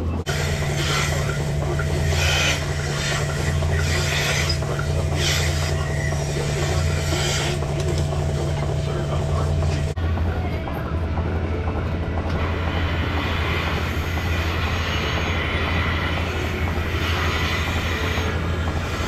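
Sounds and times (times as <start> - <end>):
milking machine vacuum hum: 0.0 - 19.0
milking units hissing: 0.3 - 10.0, 12.4 - 19.0.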